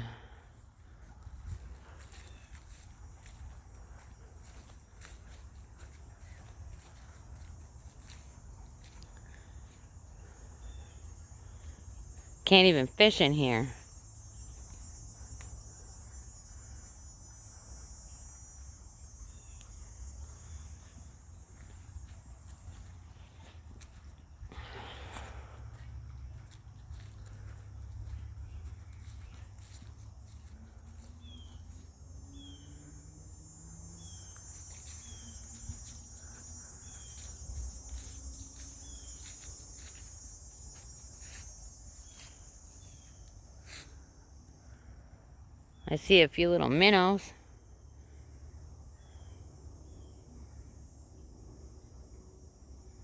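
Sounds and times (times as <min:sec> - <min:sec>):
crickets trilling: 0:00.0 - 0:53.0
insect chorus buzzing: 0:00.0 - 0:53.0.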